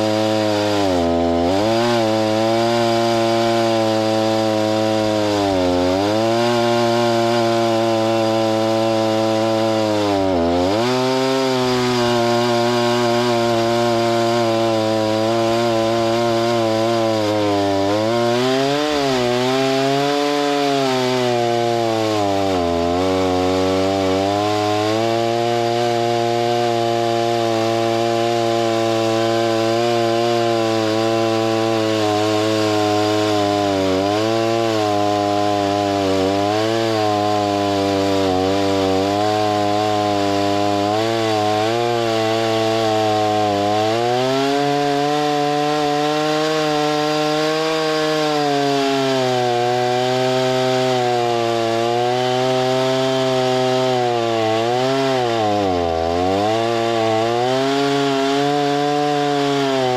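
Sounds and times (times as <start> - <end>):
gas-powered saw cutting lumber: 0.0 - 59.9.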